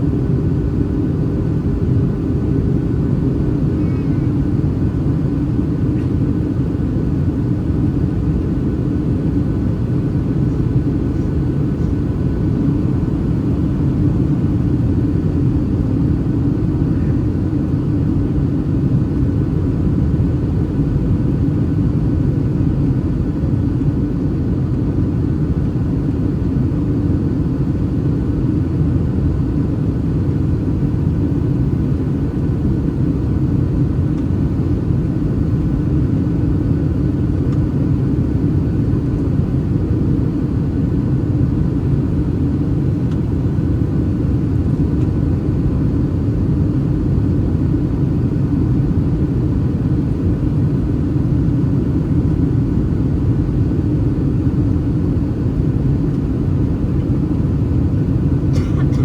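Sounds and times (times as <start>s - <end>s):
airplane cabin engine rumble: 0.0s - 59.0s
faint high hum: 0.0s - 59.0s.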